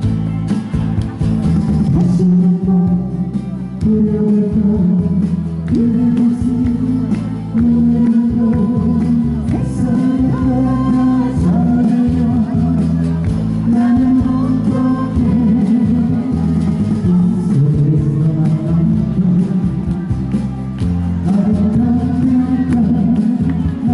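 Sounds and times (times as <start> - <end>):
acoustic guitar: 0.0 - 23.9
person singing a ballad: 0.0 - 23.9.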